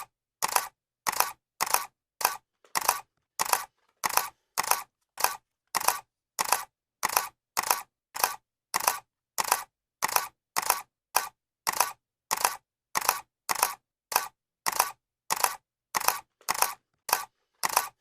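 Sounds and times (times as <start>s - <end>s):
camera shutter clicking: 0.4s - 18.0s.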